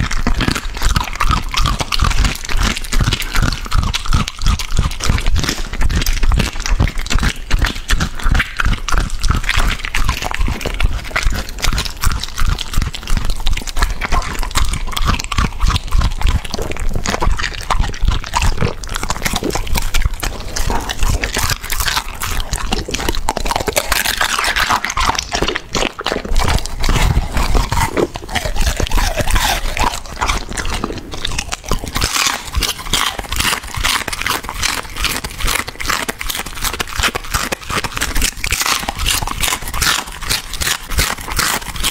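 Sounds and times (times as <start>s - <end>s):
dog chewing and crunching food: 0.0s - 41.9s.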